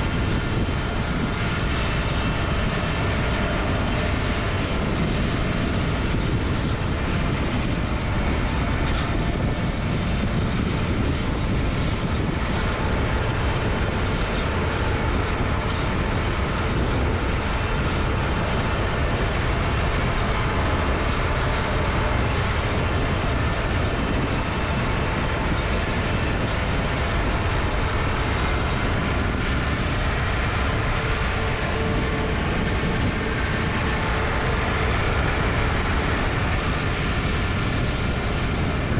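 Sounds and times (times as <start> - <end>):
heavy farm machinery engine drone: 0.0 - 38.9.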